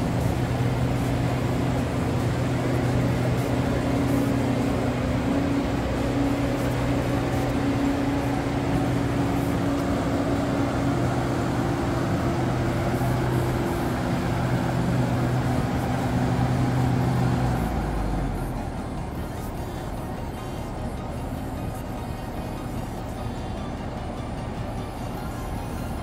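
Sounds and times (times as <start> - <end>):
combine harvester diesel engine: 0.0 - 26.0.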